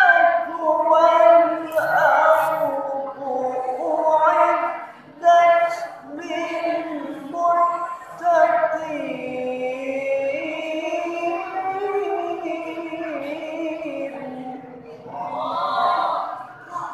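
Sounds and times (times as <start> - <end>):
man chanting melodically: 0.0 - 16.9.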